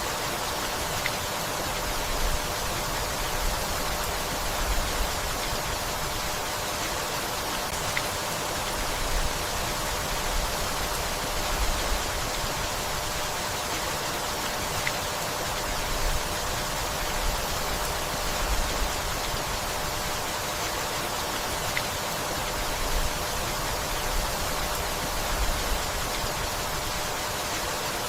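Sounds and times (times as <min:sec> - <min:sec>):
steady rainfall hiss: 0:00.0 - 0:28.0.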